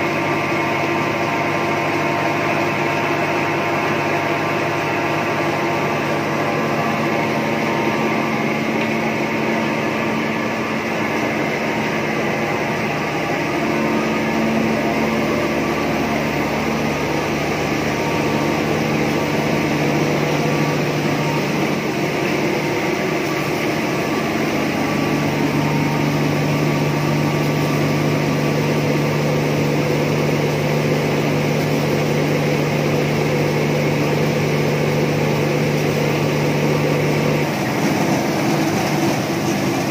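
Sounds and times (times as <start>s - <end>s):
rice mill machine hum: 0.0s - 39.9s
dense rushing machine noise: 1.2s - 39.9s.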